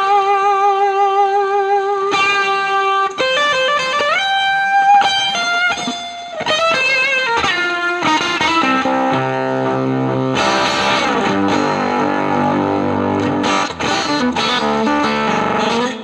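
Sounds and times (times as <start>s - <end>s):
fuzz electric guitar lead: 0.0s - 16.0s.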